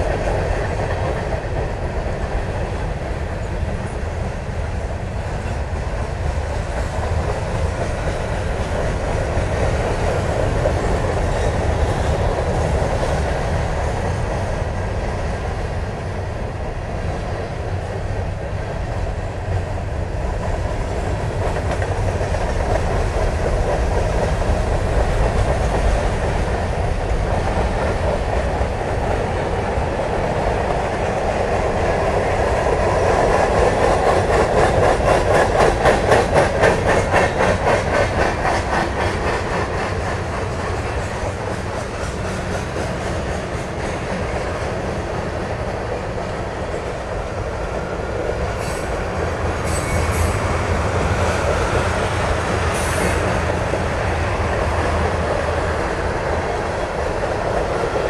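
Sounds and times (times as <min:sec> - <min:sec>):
steel wheels rumbling on rails: 0:00.0 - 0:58.0.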